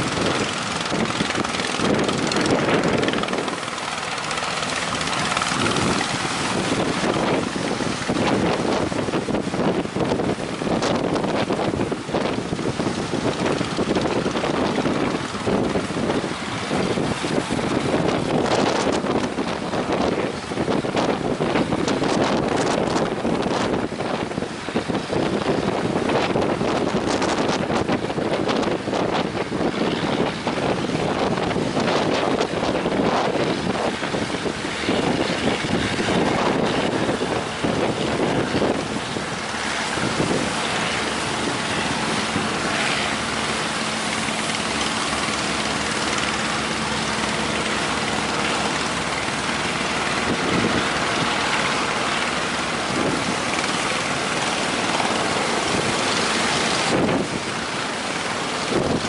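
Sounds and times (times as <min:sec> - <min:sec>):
boat engine running: 0:00.0 - 0:59.0
wind buffeting microphone: 0:00.0 - 0:59.0.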